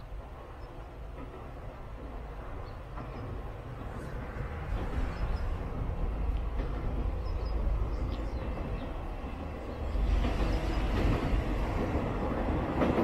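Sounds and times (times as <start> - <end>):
electric train approaching: 0.0 - 13.0.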